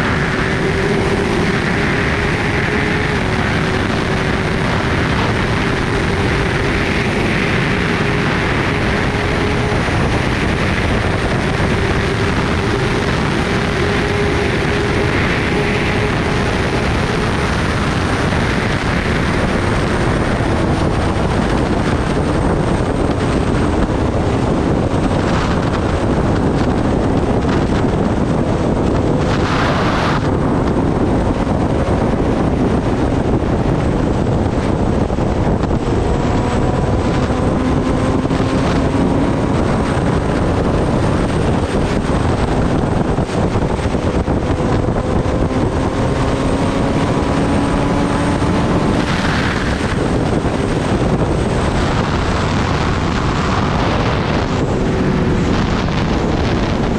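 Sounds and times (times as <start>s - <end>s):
motorcycle engine at speed: 0.0s - 56.9s
wind rush on microphone: 0.0s - 56.9s.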